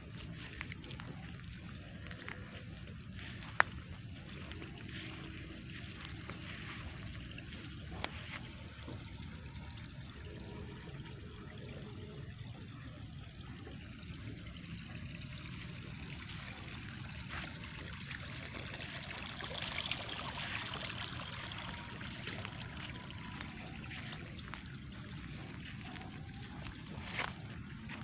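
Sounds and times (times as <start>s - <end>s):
water trickling: 0.0s - 28.0s.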